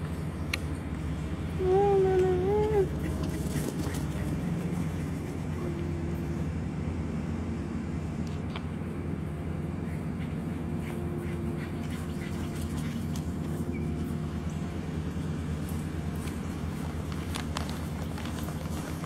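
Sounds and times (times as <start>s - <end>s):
faint hum: 0.0s - 19.0s
low motor drone: 0.0s - 19.0s.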